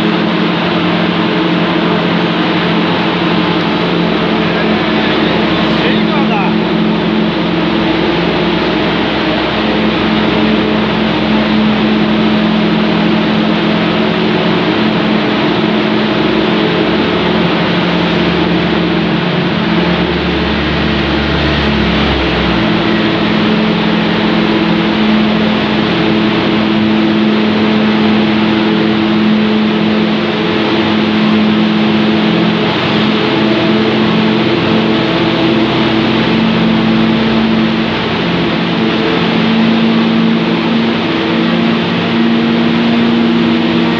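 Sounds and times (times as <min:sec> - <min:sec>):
broad rushing noise: 0:00.0 - 0:43.9
deep rumble: 0:00.0 - 0:43.9
factory machinery hum: 0:00.0 - 0:43.9.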